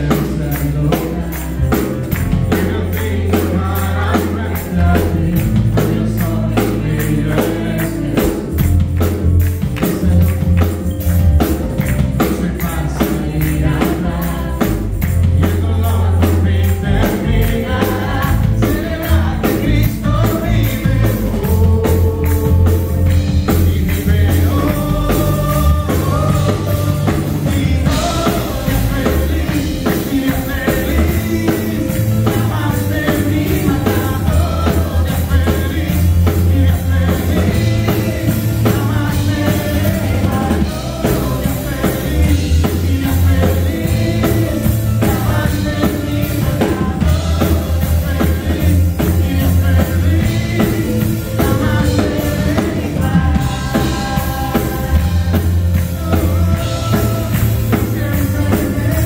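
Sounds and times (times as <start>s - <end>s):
drum kit beat: 0.0s - 59.0s
electric guitar: 0.0s - 59.0s
keyboard: 0.0s - 59.0s
low bass notes: 0.0s - 59.0s
man and woman singing: 0.0s - 59.0s.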